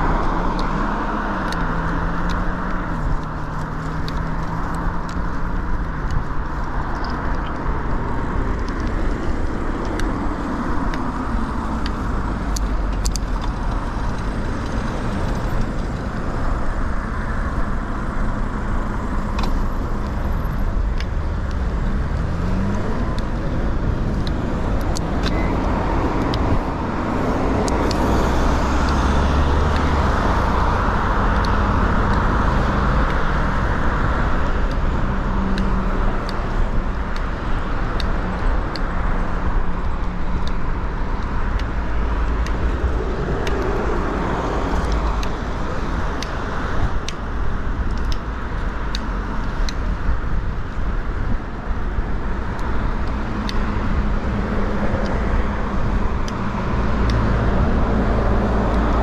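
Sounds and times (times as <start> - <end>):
road traffic rumble: 0.0 - 59.0
sharp ticks: 0.2 - 59.0.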